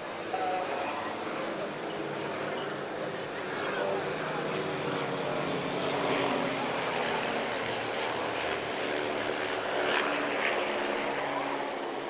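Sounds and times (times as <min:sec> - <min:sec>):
light aircraft passing overhead: 0:00.0 - 0:12.0.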